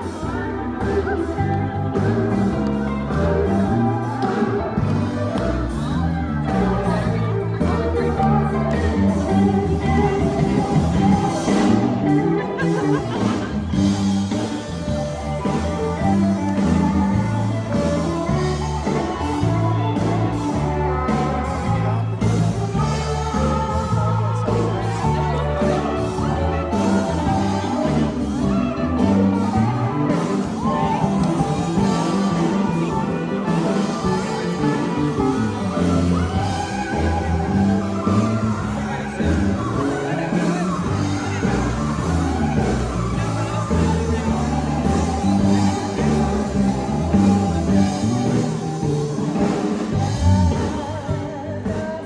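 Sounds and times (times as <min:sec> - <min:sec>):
gospel band playing: 0:00.0 - 0:52.0
person singing: 0:00.0 - 0:52.0
steel guitar: 0:00.0 - 0:52.0
walking bass line: 0:00.0 - 0:52.0.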